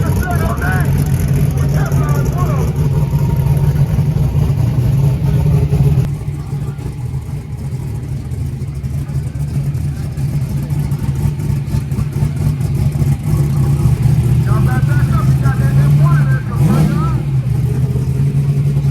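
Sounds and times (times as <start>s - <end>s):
car engine with deep exhaust: 0.0s - 18.9s.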